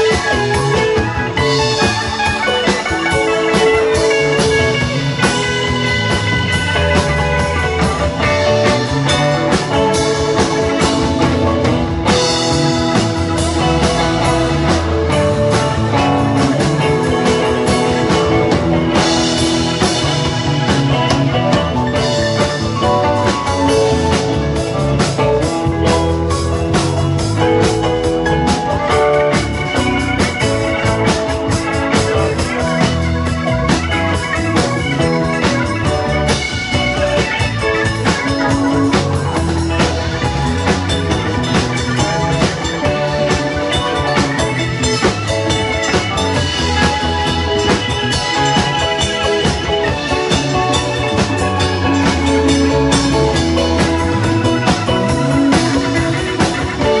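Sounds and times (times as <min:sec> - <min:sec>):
bass guitar: 0:00.0 - 0:57.0
drum kit: 0:00.0 - 0:57.0
electric guitars: 0:00.0 - 0:57.0.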